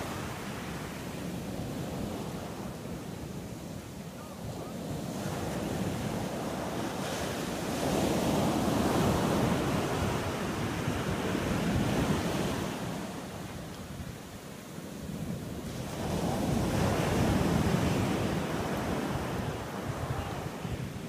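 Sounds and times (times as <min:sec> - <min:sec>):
sea surf breaking on beach: 0:00.0 - 0:21.0
wind buffeting microphone: 0:00.0 - 0:21.0.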